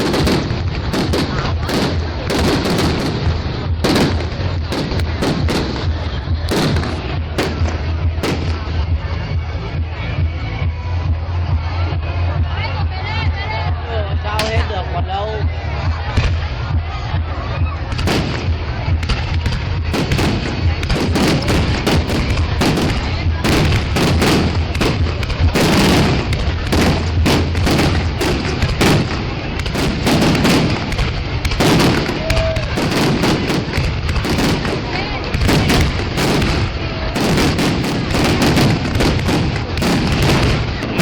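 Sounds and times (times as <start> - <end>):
firework bursts and bangs: 0.0 - 12.3, 14.4 - 41.0.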